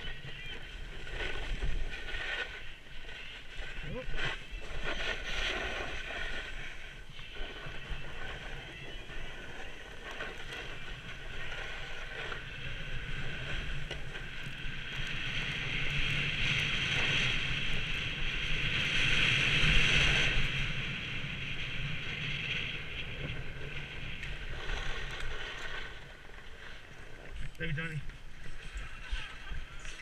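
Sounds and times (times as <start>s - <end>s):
skis hissing over snow: 0.1s - 30.0s.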